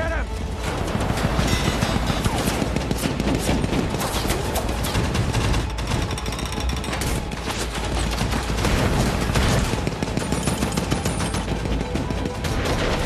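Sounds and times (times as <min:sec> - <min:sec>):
rapid gunfire: 0:00.4 - 0:13.0.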